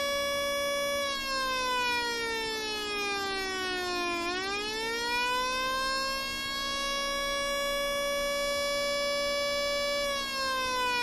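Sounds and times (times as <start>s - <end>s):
electronic siren tone sliding: 0.0s - 11.0s.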